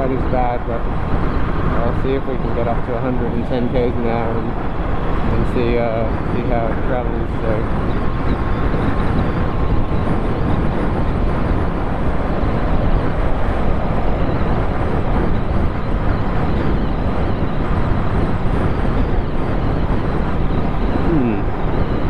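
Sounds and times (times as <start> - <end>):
road noise: 0.0 - 22.0
wind rush over microphone: 0.0 - 22.0.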